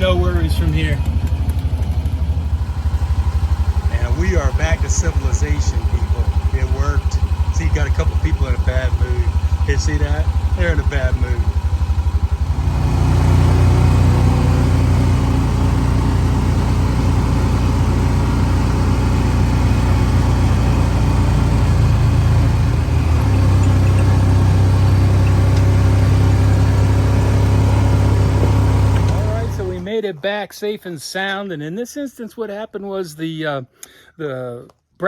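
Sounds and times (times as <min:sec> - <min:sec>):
utility vehicle engine running: 0:00.0 - 0:29.9.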